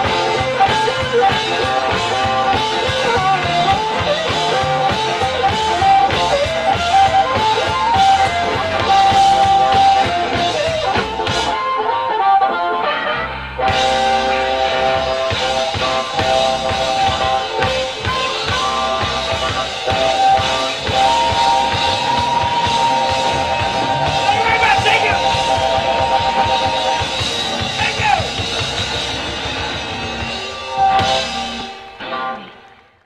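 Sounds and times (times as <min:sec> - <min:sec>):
harmonica: 0:00.0 - 0:31.9
bass guitar: 0:00.0 - 0:32.8
drums: 0:00.0 - 0:33.0
electric guitar: 0:00.0 - 0:33.0.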